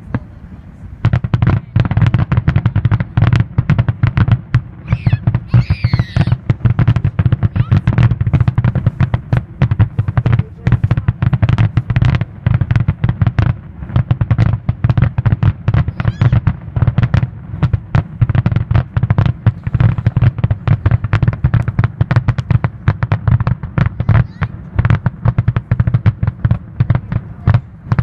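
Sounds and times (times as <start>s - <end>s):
fireworks bursting: 0.0s - 28.0s
low rumble: 0.0s - 28.0s.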